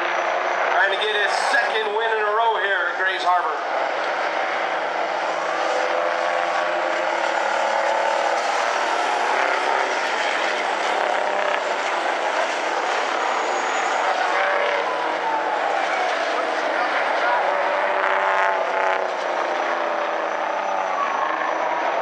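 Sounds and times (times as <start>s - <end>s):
truck diesel engines running hard: 0.0s - 22.0s.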